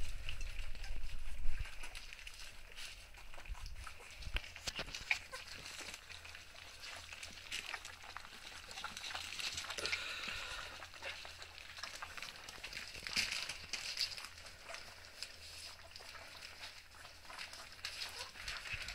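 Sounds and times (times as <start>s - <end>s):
puppies eating: 0.0s - 18.9s
wet smacking and lapping: 0.1s - 18.9s.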